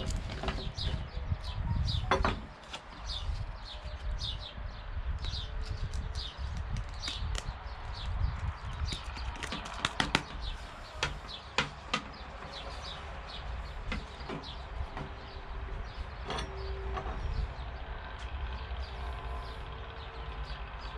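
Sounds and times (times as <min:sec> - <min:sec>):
steady low rumble: 0:00.0 - 0:09.4, 0:10.4 - 0:20.9
birds chirping: 0:00.0 - 0:20.9.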